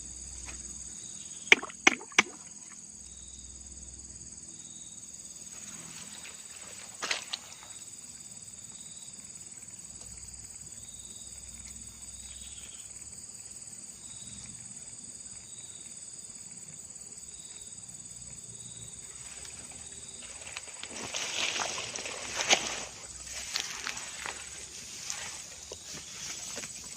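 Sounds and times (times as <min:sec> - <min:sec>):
insects chorus pulsing: 0:00.0 - 0:26.9
short insect call: 0:00.0 - 0:26.9.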